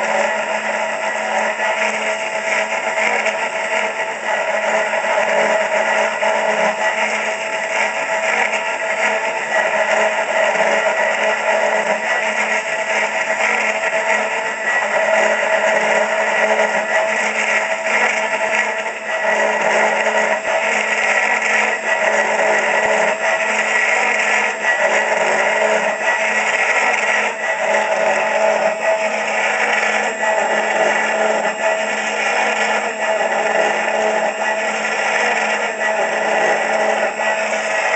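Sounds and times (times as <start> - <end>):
end mill cutting wood: 0.0 - 37.9
router spindle whine: 0.0 - 37.9.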